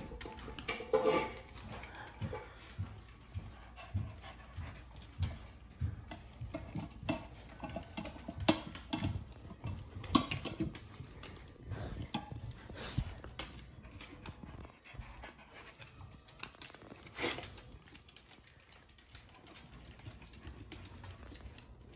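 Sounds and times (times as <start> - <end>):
dogs eating from metal bowls: 0.0 - 21.9.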